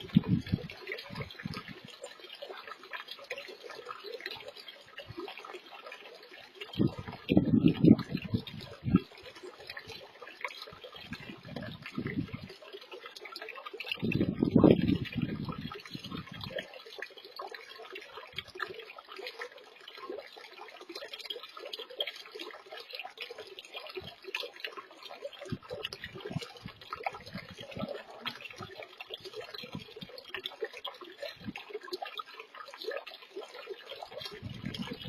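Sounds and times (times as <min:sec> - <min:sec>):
water trickling and splashing: 0:00.0 - 0:35.0.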